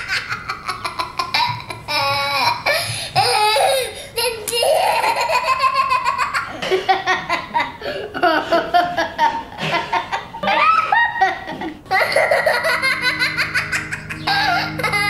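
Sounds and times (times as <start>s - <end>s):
children laughing: 0.0s - 15.0s
soft music with held low notes: 0.0s - 15.0s.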